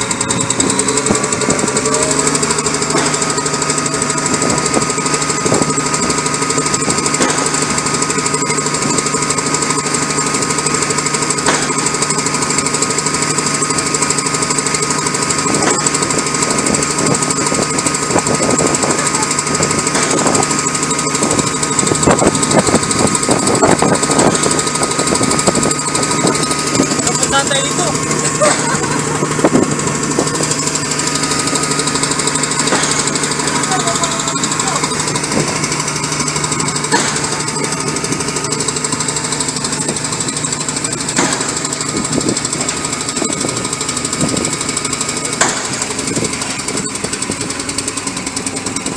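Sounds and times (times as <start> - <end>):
diesel engine idling: 0.0 - 48.9
sharp engine knocks: 0.0 - 48.9.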